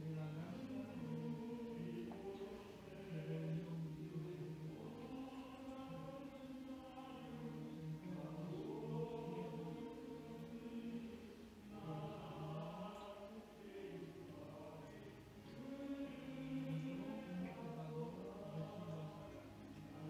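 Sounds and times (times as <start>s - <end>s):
congregation singing a hymn: 0.0s - 20.0s.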